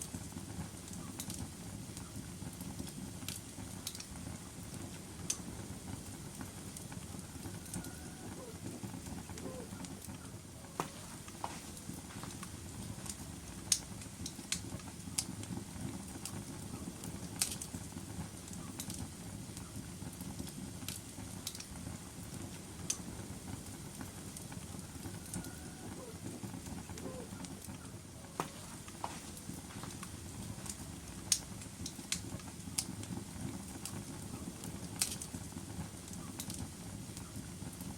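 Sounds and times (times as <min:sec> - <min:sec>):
burning logs crackling and popping: 0:00.0 - 0:37.9
fire flames rushing: 0:00.0 - 0:37.9.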